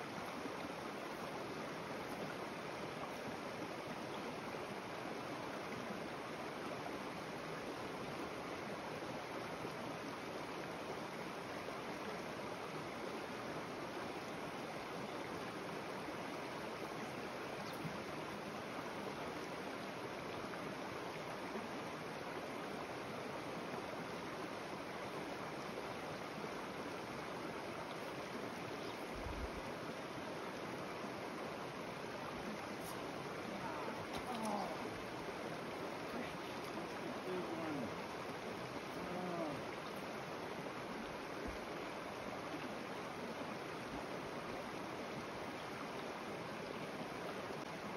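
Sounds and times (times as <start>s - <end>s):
creek water rushing over rocks: 0.0s - 47.9s.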